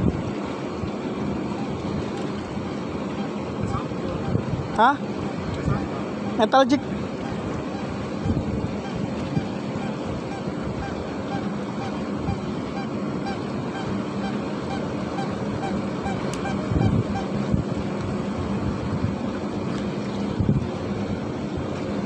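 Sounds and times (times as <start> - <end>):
boat engine humming: 0.0 - 22.0
wind rumble on microphone: 0.0 - 22.0.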